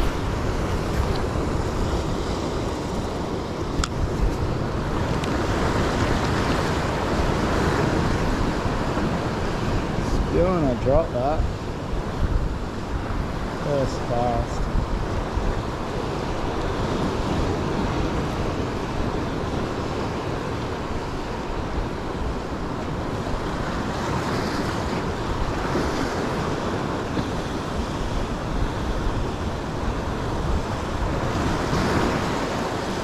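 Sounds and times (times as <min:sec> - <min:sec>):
surf washing against rocks: 0:00.0 - 0:33.0
wind buffeting microphone: 0:00.0 - 0:33.0.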